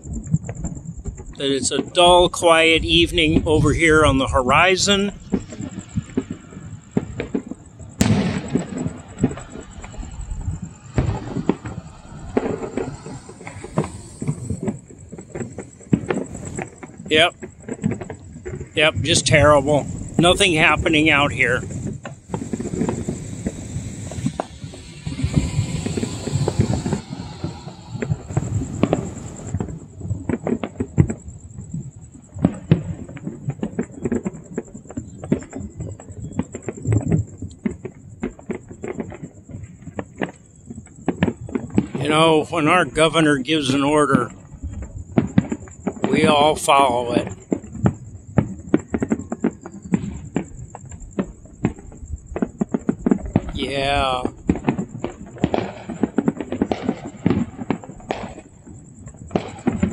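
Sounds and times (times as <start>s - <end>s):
distant fireworks pops and bangs: 0.0s - 59.9s.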